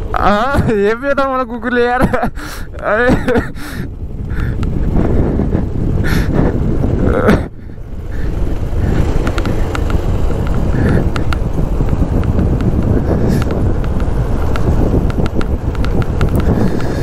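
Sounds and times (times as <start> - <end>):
motorcycle engine: 0.0 - 17.0
road noise: 0.0 - 17.0
wind rumble on microphone: 0.0 - 17.0.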